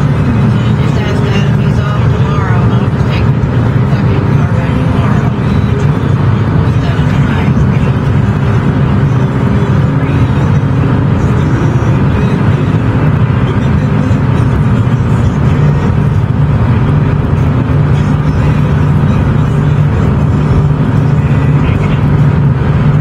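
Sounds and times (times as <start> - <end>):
car road and engine drone: 0.0 - 23.0.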